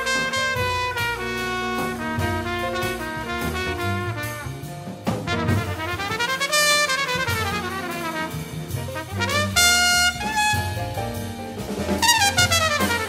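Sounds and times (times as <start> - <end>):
double bass: 0.0 - 13.0
drums: 0.0 - 13.0
horn playing quick runs: 0.0 - 13.0
jazz piano: 0.0 - 13.0.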